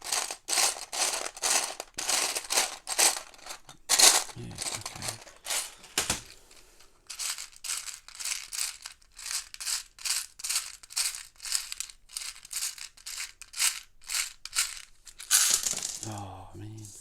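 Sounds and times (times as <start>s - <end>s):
plastic bricks rattling: 0.0s - 6.4s, 7.1s - 16.2s.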